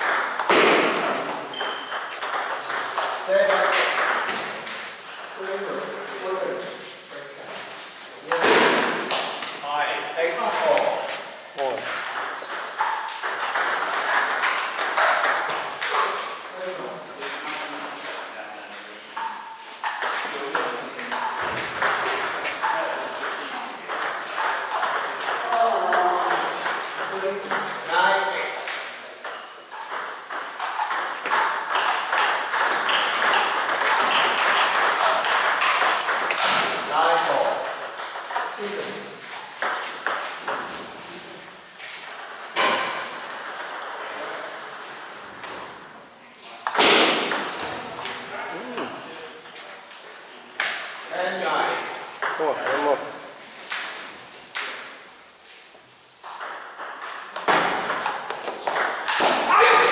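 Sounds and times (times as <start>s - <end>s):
table tennis ball hits: 0.0s - 7.2s, 8.3s - 11.2s, 11.8s - 16.4s, 17.2s - 41.0s, 42.2s - 44.2s, 46.6s - 51.1s, 51.9s - 55.0s, 56.2s - 59.9s.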